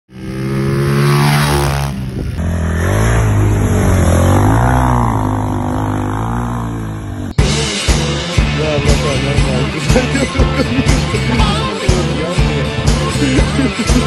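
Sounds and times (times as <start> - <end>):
dirt bike engine revving: 0.1 - 14.0
dirt bike engine steady: 0.1 - 14.0.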